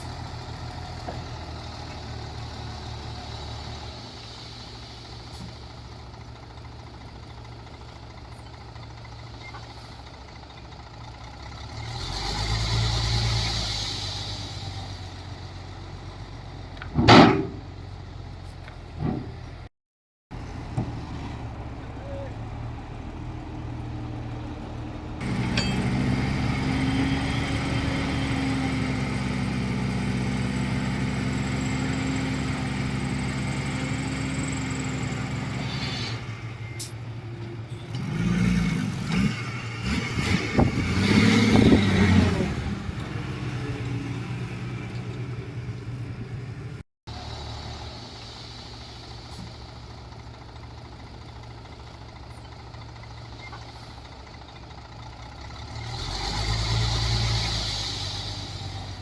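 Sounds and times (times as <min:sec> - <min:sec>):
diesel machinery engine running: 0:00.0 - 0:19.7, 0:20.3 - 0:59.0.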